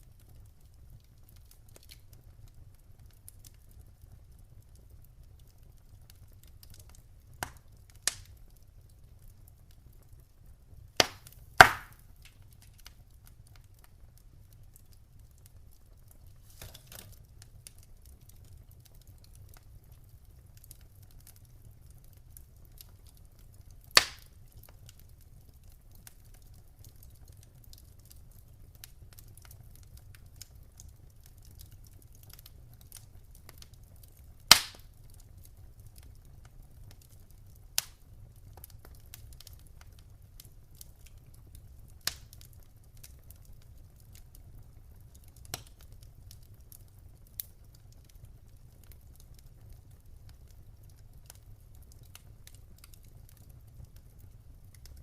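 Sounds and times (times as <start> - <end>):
fire crackling softly: 0.0 - 55.0
logs popping in fire: 0.0 - 55.0.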